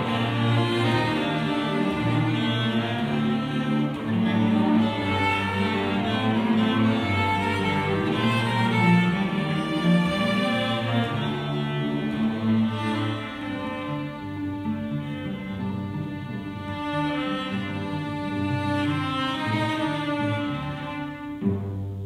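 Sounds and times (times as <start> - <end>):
cello ensemble playing: 0.0 - 22.0.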